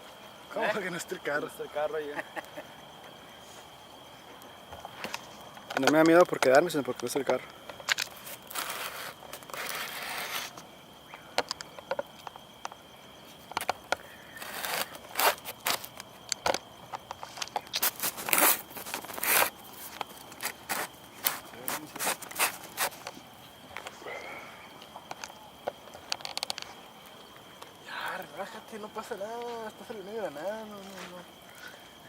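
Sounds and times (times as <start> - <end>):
campfire crackling and popping: 0.8 - 31.8.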